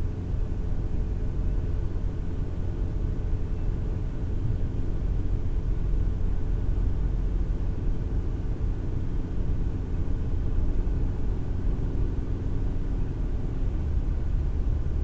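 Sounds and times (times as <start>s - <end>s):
car interior road and engine noise: 0.0s - 15.0s.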